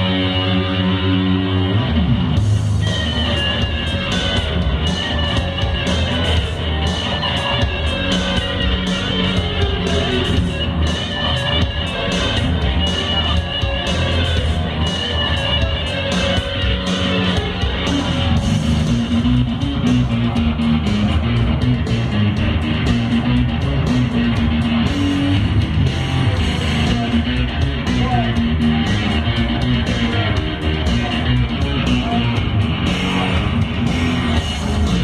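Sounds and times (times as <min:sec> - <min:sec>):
electric guitar rock riff: 0:00.0 - 0:35.0.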